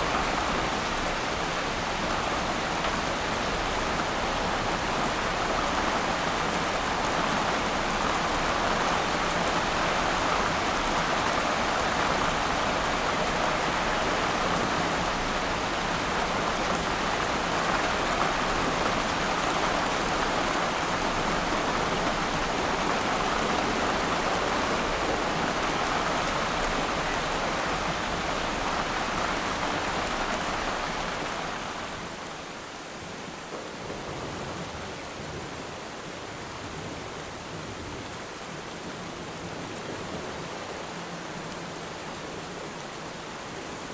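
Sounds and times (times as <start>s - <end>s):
rain pattering on water: 0.0s - 43.1s.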